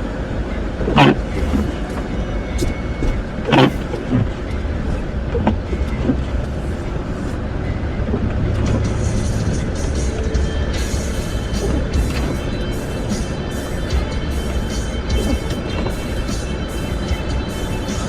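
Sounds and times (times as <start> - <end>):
diesel pickup low rumble: 0.0 - 18.0.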